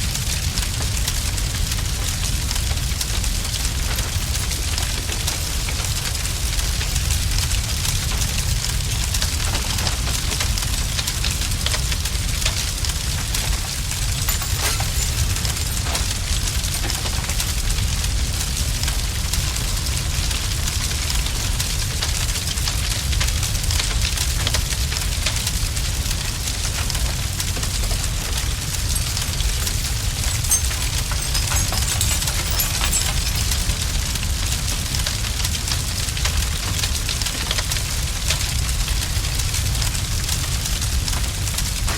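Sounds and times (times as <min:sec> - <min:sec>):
fire crackling and popping: 0:00.0 - 0:41.9
large fire rumbling: 0:00.0 - 0:41.9.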